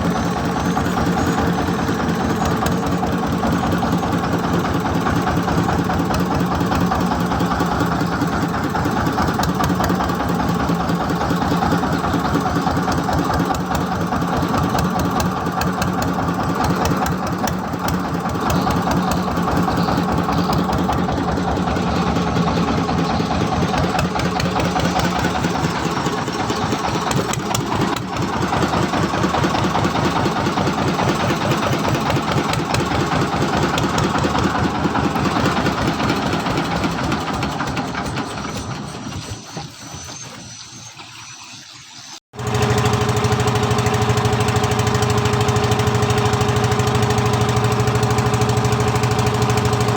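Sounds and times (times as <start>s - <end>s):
engine running steadily: 0.0s - 39.6s, 42.4s - 49.9s.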